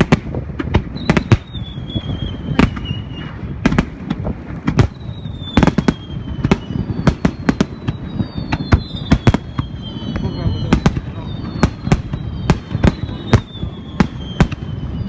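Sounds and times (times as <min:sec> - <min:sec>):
fireworks bangs: 0:00.0 - 0:15.0
high falling whistles: 0:01.0 - 0:03.4, 0:04.8 - 0:15.0.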